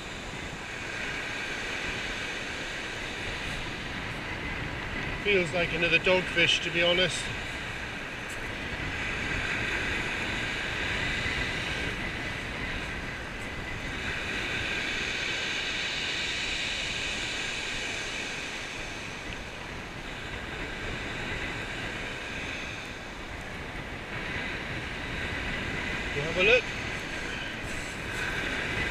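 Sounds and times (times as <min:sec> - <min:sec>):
surf washing on shingle: 0:00.0 - 0:28.9
wind buffeting microphone: 0:00.0 - 0:28.9.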